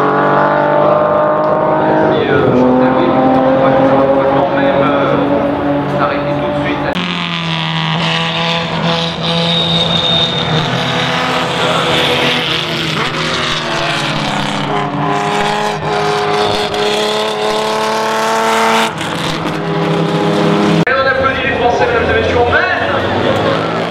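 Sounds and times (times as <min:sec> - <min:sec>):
racing car engines at speed: 0:00.0 - 0:23.9.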